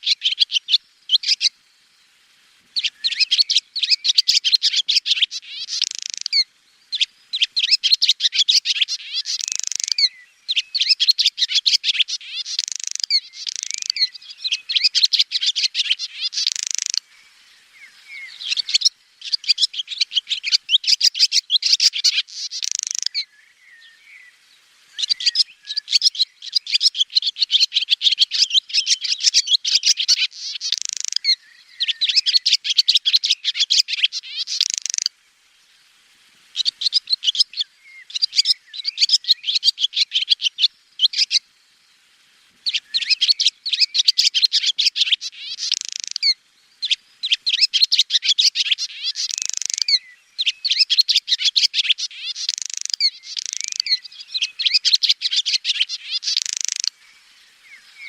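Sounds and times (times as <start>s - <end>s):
swallow twittering: 0.0s - 1.5s, 2.8s - 35.1s, 36.5s - 41.4s, 42.6s - 58.0s.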